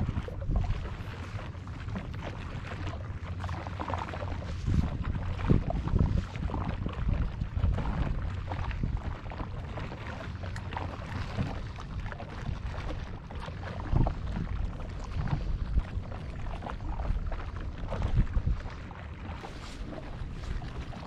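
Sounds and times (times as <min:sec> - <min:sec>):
gusty wind on microphone: 0:00.0 - 0:02.7, 0:04.1 - 0:21.0
water lapping at shore: 0:00.0 - 0:21.0.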